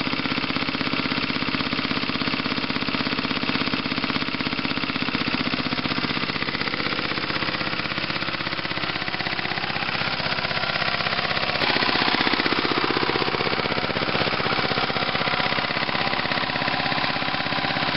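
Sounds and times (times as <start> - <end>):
diesel tractor engine running: 0.0 - 17.9.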